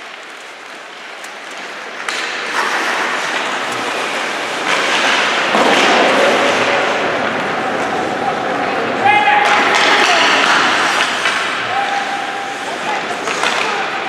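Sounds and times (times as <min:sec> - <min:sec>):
ice rink noise: 0:00.0 - 0:14.0.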